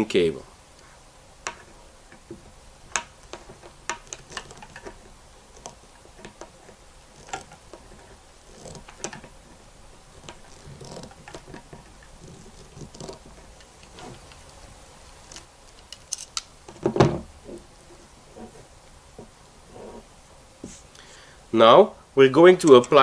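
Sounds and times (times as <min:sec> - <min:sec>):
hands working a cable sleeve: 0:00.7 - 0:21.0.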